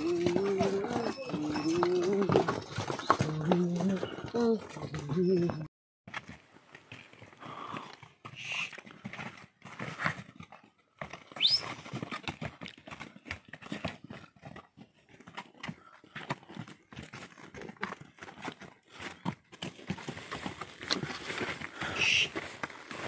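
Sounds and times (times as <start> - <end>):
hooves knocking on stones: 0.0 - 23.0.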